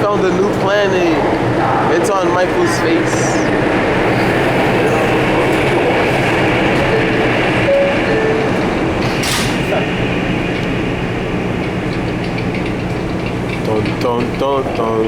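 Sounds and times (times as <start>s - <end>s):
subway train wheels rumbling on rail: 0.0s - 15.0s.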